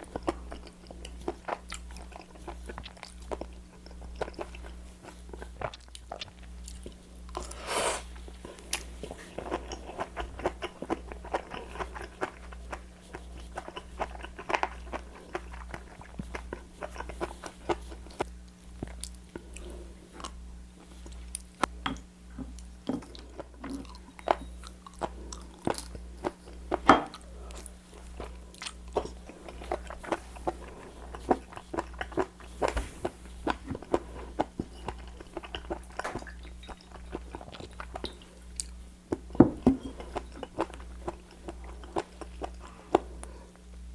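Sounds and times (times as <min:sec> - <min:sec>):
chewing and crunching food: 0:00.0 - 0:21.8, 0:22.5 - 0:43.9
faint steady hum: 0:00.0 - 0:43.9.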